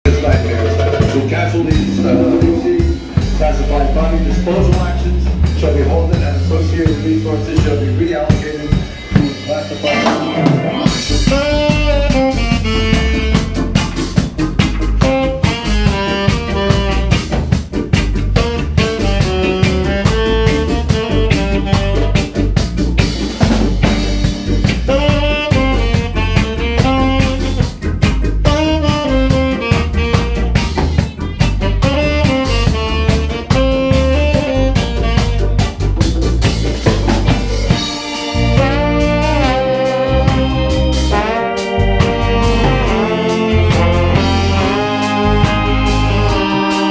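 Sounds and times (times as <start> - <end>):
bass guitar: 0.0 - 46.9
drum kit: 0.0 - 46.9
reggae-funk band playing: 0.0 - 46.9.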